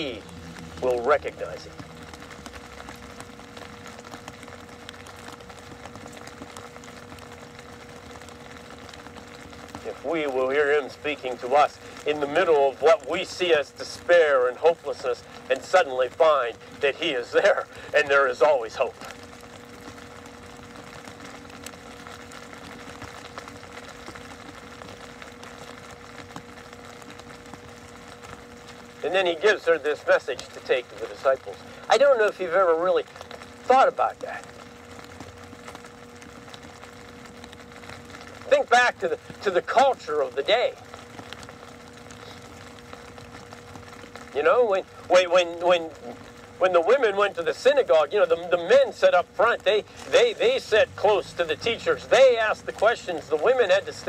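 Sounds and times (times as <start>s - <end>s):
background hum: 0.0s - 54.0s
weaker low tone: 0.0s - 54.0s.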